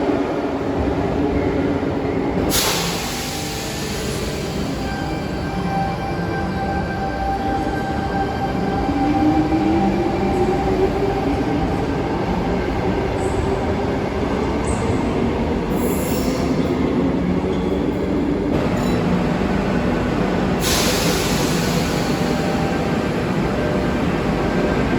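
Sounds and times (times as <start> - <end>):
electric train rumbling: 0.0 - 24.9.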